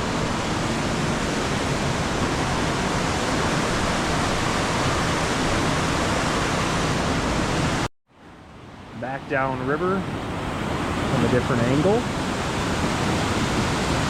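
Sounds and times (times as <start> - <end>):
waterfall roaring: 0.0 - 7.9, 8.9 - 14.0.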